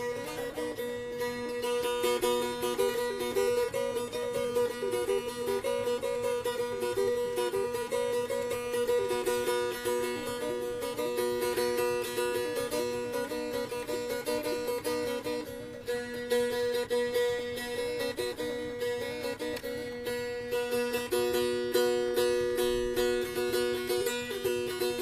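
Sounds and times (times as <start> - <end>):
plucked string instrument melody: 0.0 - 25.0.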